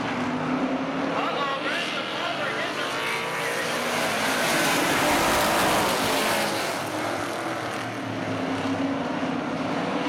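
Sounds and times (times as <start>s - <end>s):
race car engines roaring: 0.0s - 10.0s.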